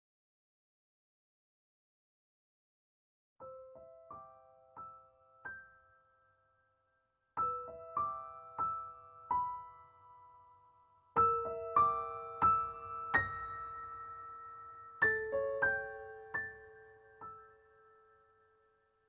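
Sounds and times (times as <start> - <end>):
gentle piano melody: 3.4 - 19.0.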